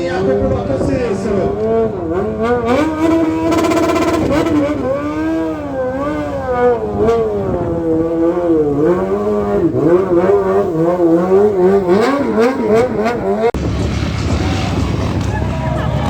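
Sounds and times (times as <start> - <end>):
engine revving up and down: 0.0 - 16.0.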